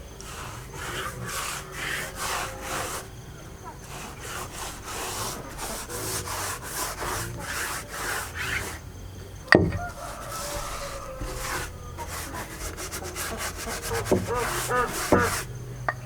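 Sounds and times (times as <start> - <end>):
hand tool rubbing across wood: 0.0 - 16.0.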